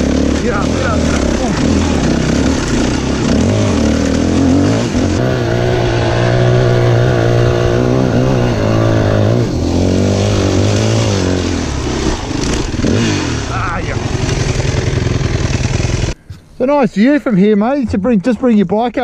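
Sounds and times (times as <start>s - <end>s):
dirt bike engine under throttle: 0.0s - 16.2s.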